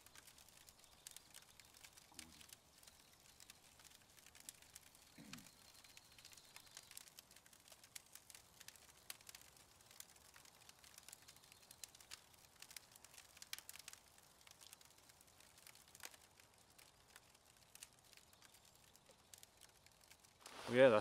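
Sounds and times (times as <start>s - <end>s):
bacon cooking on a grill: 0.0s - 21.0s
campfire embers crackling: 0.0s - 21.0s.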